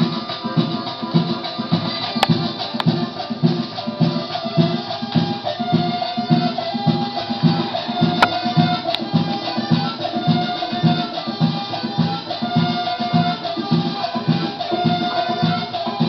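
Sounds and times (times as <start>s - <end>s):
cumbia music from a record: 0.0s - 16.0s.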